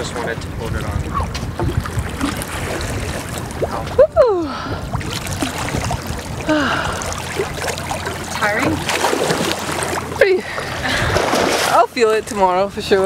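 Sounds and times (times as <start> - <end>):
water alongside a boat: 0.0 - 13.0
wind: 0.0 - 13.0.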